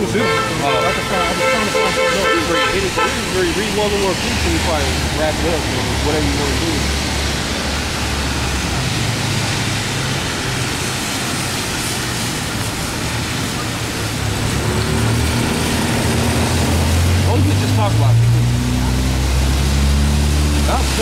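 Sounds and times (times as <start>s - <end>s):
passing cars rumble and hiss: 0.0s - 21.0s.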